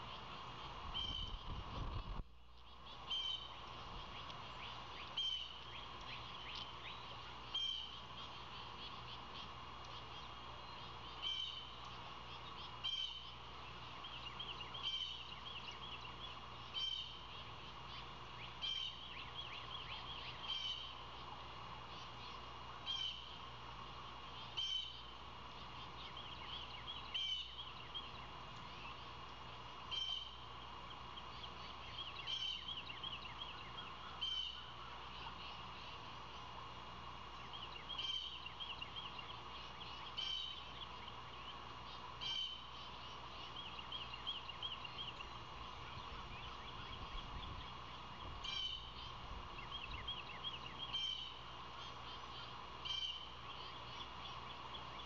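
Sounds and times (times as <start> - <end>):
bird calling in trilled phrases: 0.0 - 23.4, 24.3 - 29.2, 29.8 - 36.1, 37.4 - 55.0
steady background hiss: 0.0 - 55.0.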